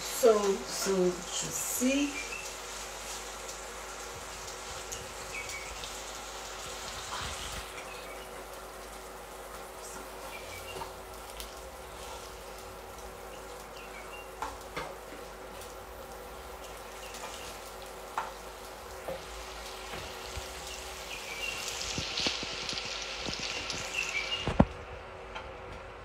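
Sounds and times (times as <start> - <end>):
chicken sizzling in frying pan: 0.0 - 24.8.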